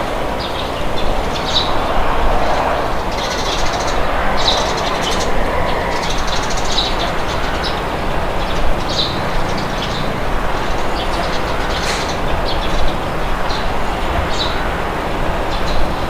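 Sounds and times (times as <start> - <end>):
birds chirping: 0.0 - 16.0
rushing wind: 0.0 - 16.0.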